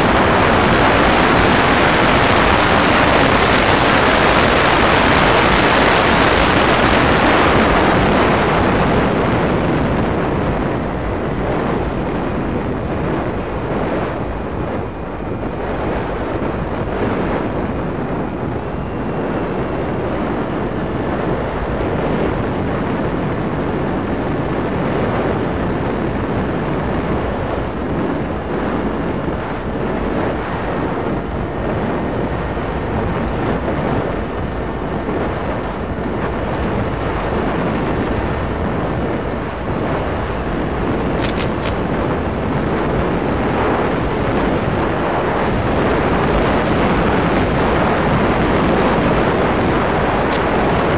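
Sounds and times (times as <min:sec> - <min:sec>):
airflow rushing: 0:00.0 - 0:50.9
electric motor: 0:00.0 - 0:50.9.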